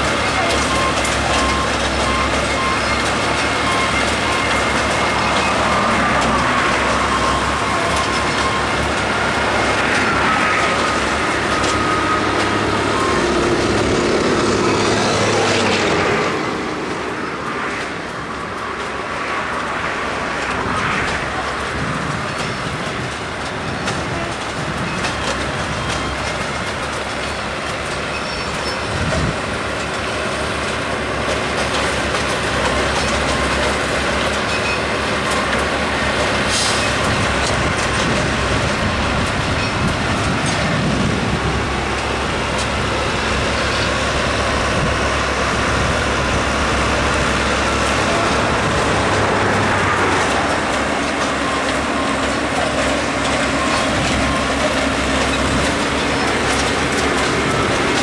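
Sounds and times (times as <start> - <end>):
rail machine engine running: 0.0 - 58.0.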